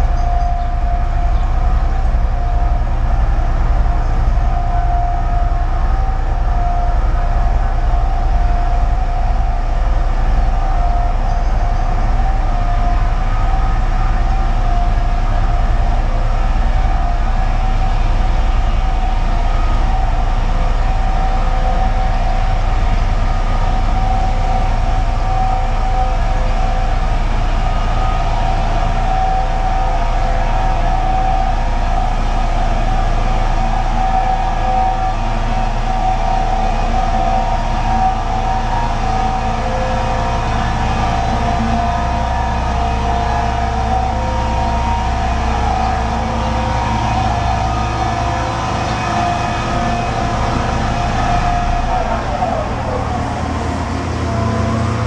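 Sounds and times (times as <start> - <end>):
droning whine: 0.0 - 55.0
low industrial rumble: 0.0 - 55.0.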